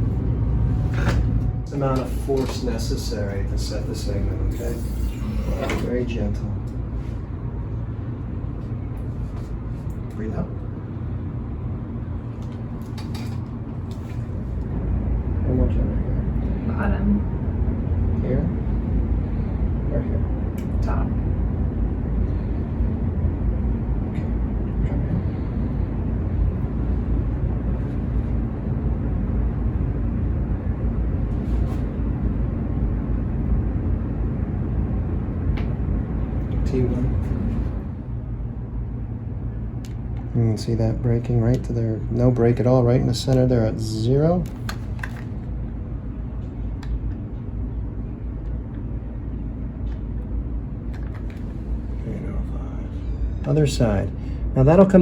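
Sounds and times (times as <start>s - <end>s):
low rumbling hum: 0.0s - 55.0s.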